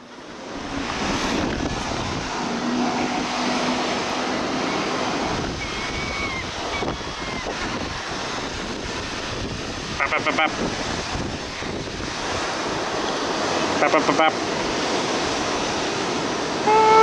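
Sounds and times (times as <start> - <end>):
surf: 0.0 - 17.0
wind buffeting microphone: 0.0 - 17.0.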